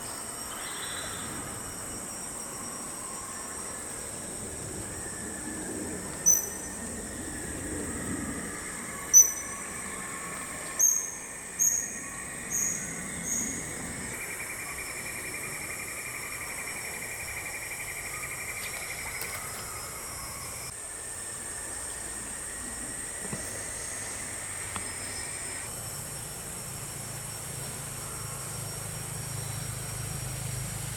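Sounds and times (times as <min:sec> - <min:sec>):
insects droning: 0:00.0 - 0:30.9.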